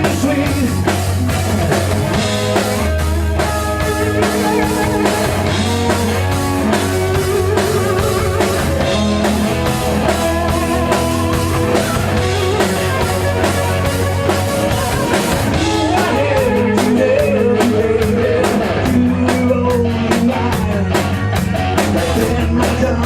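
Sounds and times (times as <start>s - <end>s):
drum kit steady beat: 0.0s - 23.0s
guitars: 0.0s - 23.0s.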